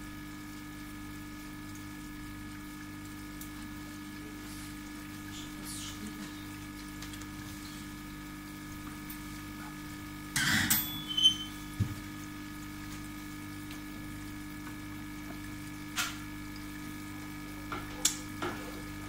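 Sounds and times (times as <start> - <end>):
aquarium pump humming: 0.0 - 19.0.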